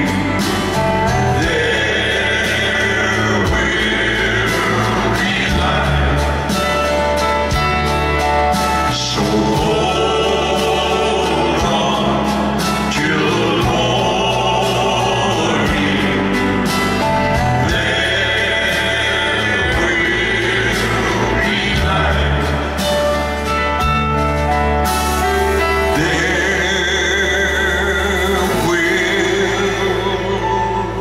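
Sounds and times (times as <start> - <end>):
male vocal quartet singing: 0.0 - 24.2, 24.8 - 31.0
live band with acoustic guitar: 0.0 - 31.0.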